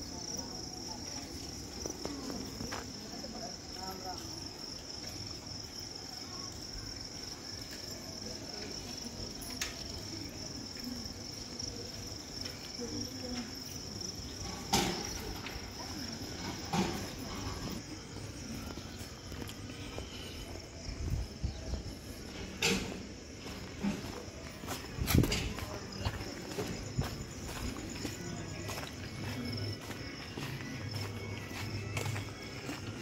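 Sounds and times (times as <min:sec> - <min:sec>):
crickets chirring: 0:00.0 - 0:33.0
faint low voices: 0:00.0 - 0:33.0.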